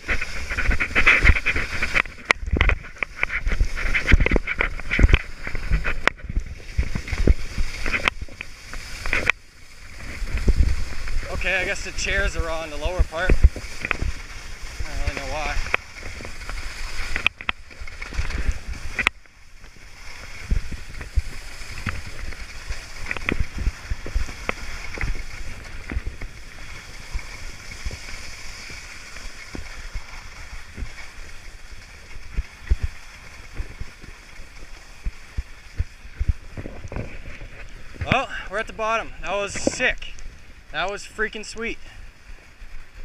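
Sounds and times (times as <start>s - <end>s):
wind buffeting microphone: 0.0s - 40.7s
ski knocks and chatters: 0.0s - 42.1s
skis hissing over snow: 0.0s - 43.0s.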